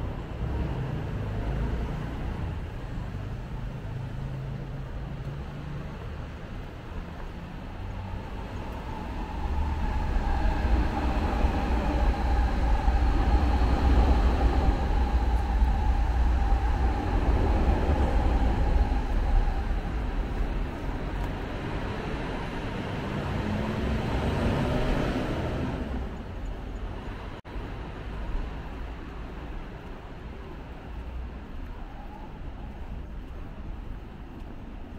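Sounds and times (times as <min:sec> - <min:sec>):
train rumbling past: 0:00.0 - 0:34.9.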